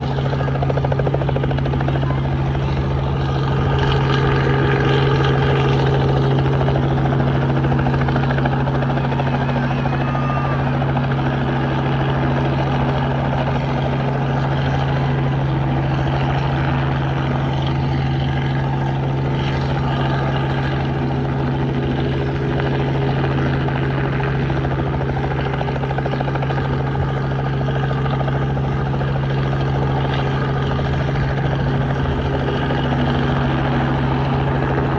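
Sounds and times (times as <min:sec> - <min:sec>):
helicopter running: 0:00.0 - 0:34.9.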